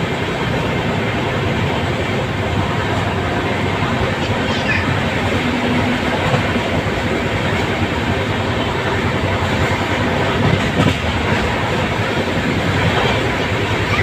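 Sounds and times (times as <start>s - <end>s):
train wheels and wind running noise: 0.0s - 14.0s.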